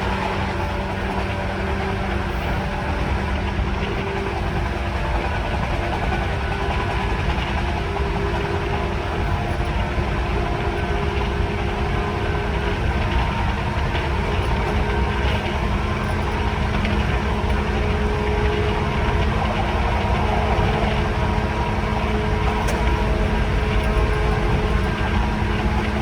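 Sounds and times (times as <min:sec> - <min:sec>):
train motor hum: 0:00.0 - 0:26.0
wheels rumbling on rail: 0:00.0 - 0:26.0.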